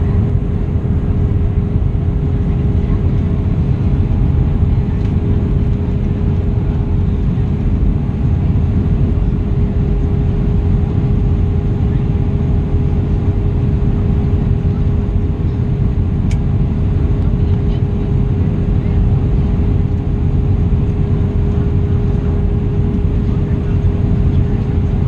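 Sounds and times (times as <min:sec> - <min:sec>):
aircraft engine and airflow rumble: 0:00.0 - 0:25.0
constant low hum: 0:00.0 - 0:25.0.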